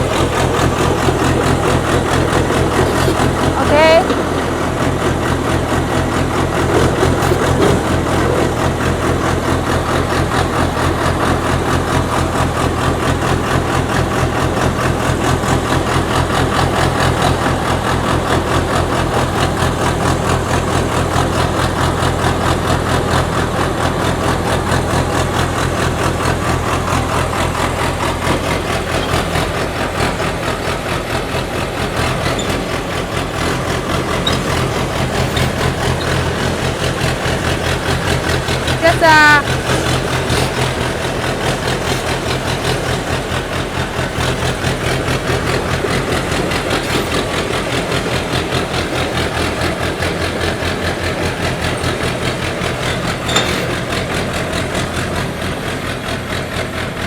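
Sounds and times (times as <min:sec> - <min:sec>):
drilling rig engine running: 0:00.0 - 0:57.0.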